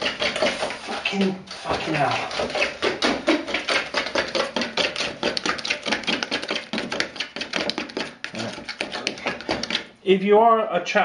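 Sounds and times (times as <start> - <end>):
fork beating batter in a bowl: 0.0 - 10.0.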